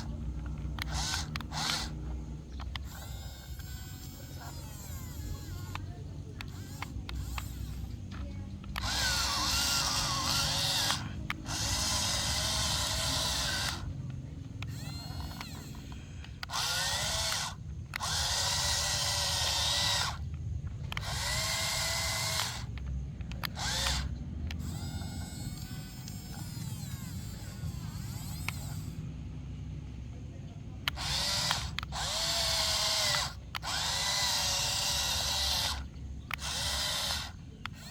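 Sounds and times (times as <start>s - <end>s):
toy excavator motors whining: 0.0s - 37.9s.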